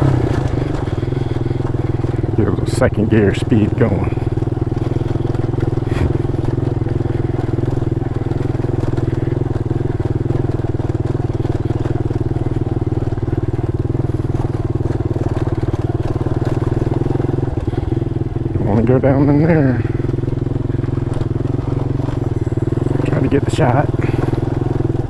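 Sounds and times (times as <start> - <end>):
mini motorcycle engine running: 0.0 - 25.0.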